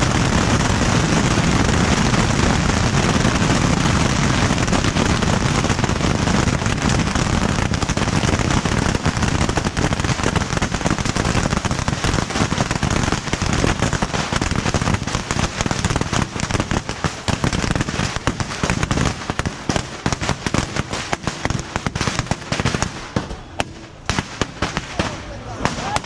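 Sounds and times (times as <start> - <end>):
firecrackers crackling: 0.0 - 26.0.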